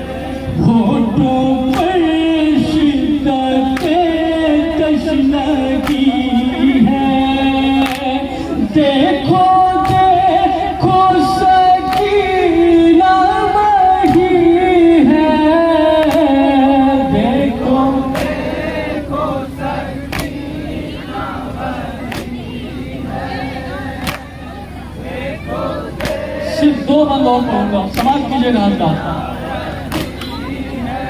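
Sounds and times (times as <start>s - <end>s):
lead reciter on microphone: 0.0s - 31.0s
men chanting in unison: 0.0s - 31.0s.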